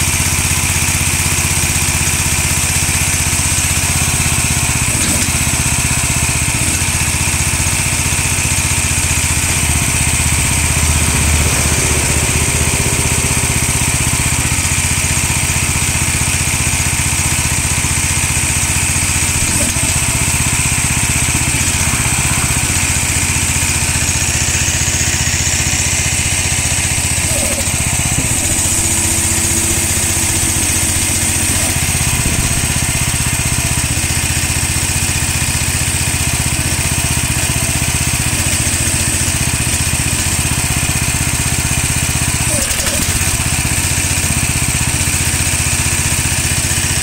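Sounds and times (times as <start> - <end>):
small engine running: 0.0 - 47.0.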